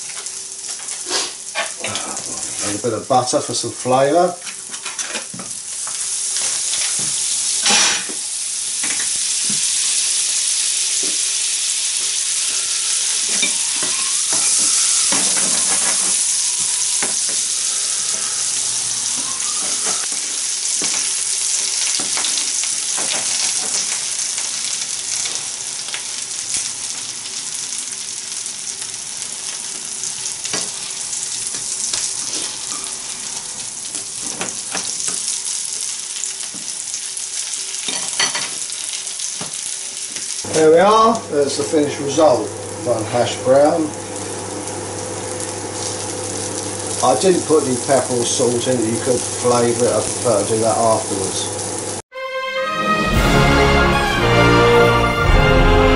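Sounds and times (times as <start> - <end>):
hash browns sizzling in frying pan: 0.0 - 52.0.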